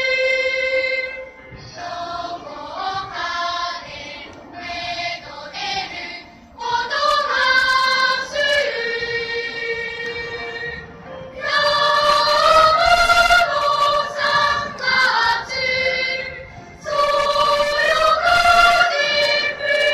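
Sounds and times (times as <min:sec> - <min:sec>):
children's choir singing: 0:00.0 - 0:19.9.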